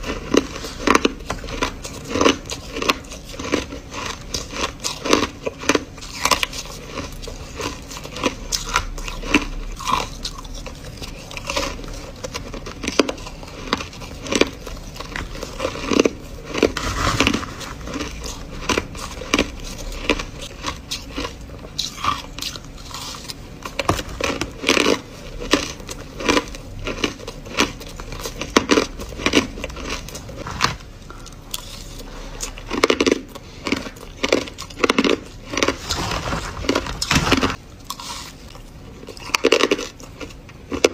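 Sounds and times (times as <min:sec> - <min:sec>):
crushed ice being chewed: 0:00.0 - 0:40.9.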